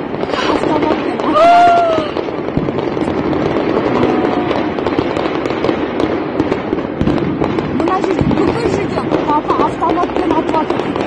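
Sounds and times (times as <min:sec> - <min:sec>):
distant gunfire: 0:00.2 - 0:11.0.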